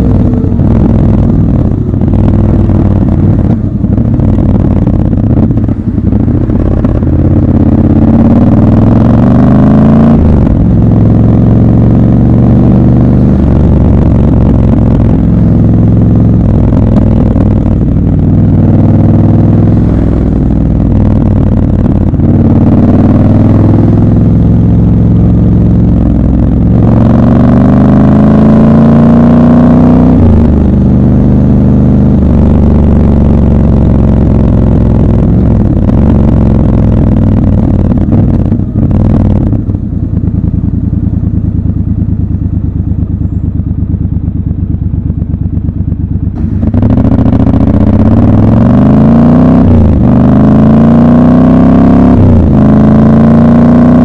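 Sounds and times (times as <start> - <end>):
motorcycle engine revving through gears: 0.0 - 54.0.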